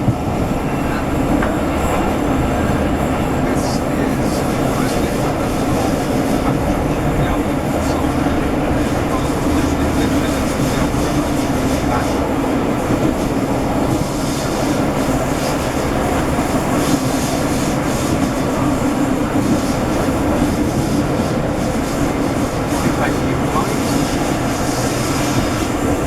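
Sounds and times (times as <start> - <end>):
train coach rumbling on rails: 0.0 - 26.0.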